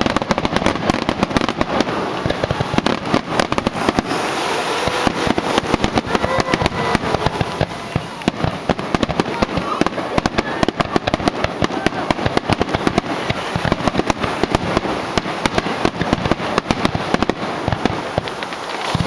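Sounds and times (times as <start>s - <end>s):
firework shells bursting: 0.0s - 19.0s
fireworks crackling: 0.0s - 19.0s.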